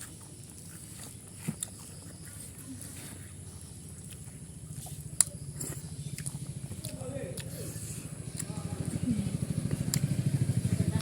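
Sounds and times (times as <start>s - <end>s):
person chewing food: 0.0s - 10.6s
steady low hum: 0.0s - 11.0s.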